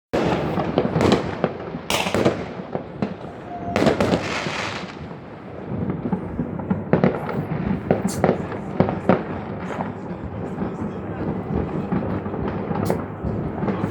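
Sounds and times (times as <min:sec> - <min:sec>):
fireworks bangs and crackles: 0:00.1 - 0:13.9.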